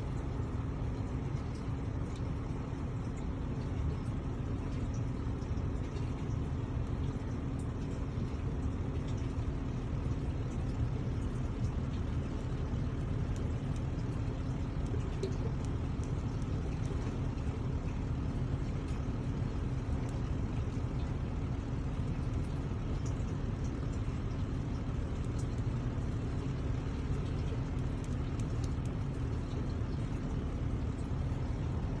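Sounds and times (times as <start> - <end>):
steady low rumble: 0.0 - 32.0
faint ticks: 0.8 - 31.8.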